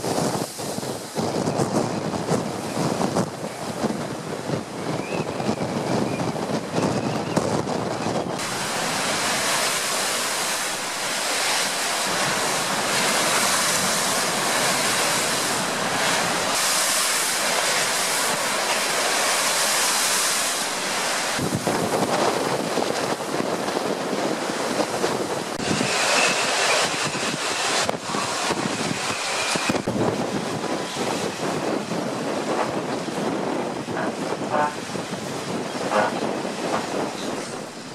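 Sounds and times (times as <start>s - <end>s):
storm wind blowing: 0.0s - 37.9s
waves crashing against shore: 0.0s - 37.9s
wind buffeting microphone: 0.0s - 37.9s.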